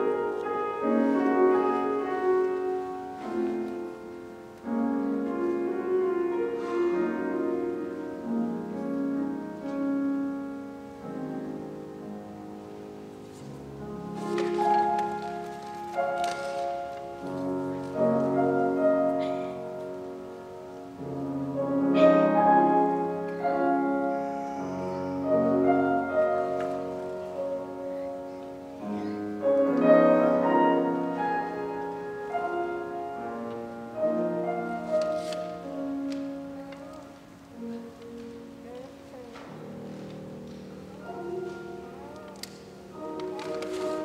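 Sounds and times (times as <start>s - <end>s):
slow solo instrumental melody: 0.0s - 44.0s.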